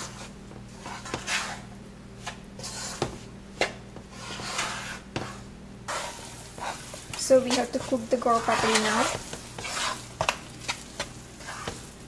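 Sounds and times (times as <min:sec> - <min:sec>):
spoon stirring and scraping pot: 0:00.0 - 0:12.0.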